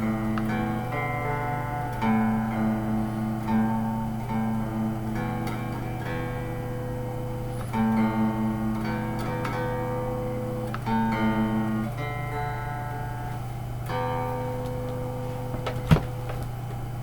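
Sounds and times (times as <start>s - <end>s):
electric guitar chords ringing: 0.0s - 17.0s
low amplifier hum: 0.0s - 17.0s.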